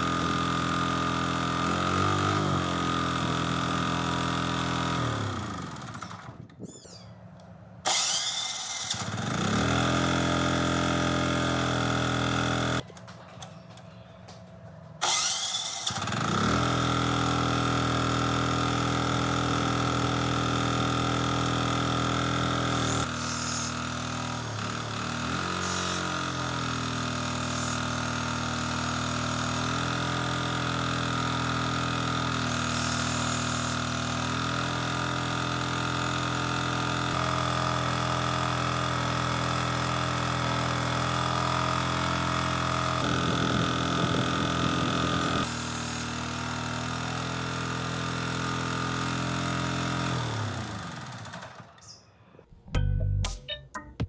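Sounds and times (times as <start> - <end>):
generator engine running: 0.0 - 6.5, 7.8 - 45.5, 46.1 - 53.4.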